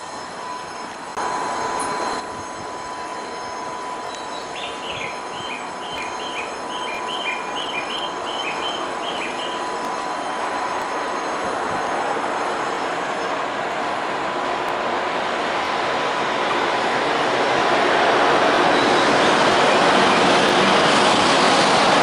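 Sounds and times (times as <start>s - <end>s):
train noise with high whine: 0.0s - 22.0s.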